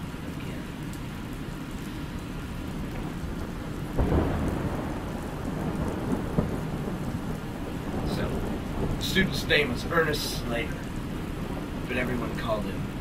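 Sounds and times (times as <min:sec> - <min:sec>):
steady rain: 0:00.0 - 0:13.0
thunder clap and rumble: 0:00.0 - 0:13.0.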